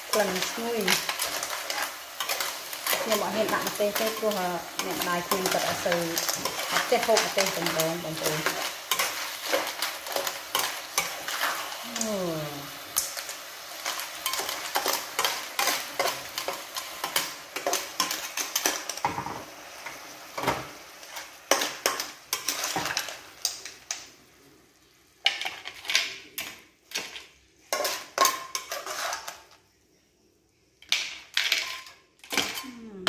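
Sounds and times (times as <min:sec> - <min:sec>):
metal spatula scraping a pan: 0:00.0 - 0:11.8, 0:13.0 - 0:19.2, 0:19.8 - 0:23.2, 0:25.3 - 0:29.6, 0:30.9 - 0:32.8
light sizzle: 0:00.0 - 0:33.0.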